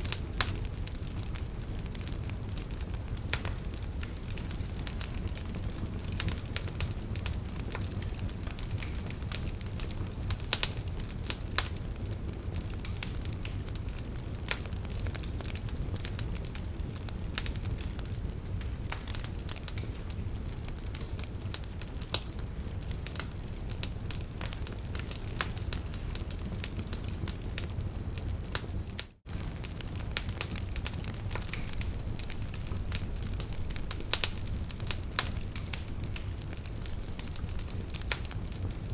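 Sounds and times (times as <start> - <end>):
crackles and pops of burning logs: 0.0 - 38.9
fire burning in fireplace: 0.0 - 38.9.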